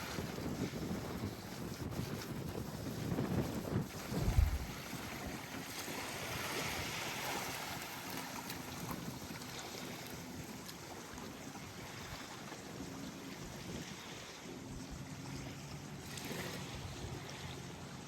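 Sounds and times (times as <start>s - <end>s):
small waves washing onto beach: 0.0s - 18.0s
wind on microphone: 0.0s - 18.0s.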